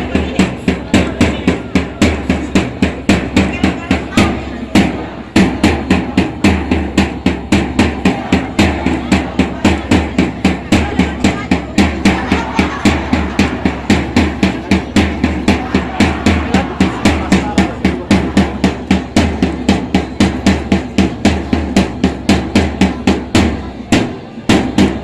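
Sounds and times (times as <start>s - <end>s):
fast drum beat: 0.0s - 25.0s.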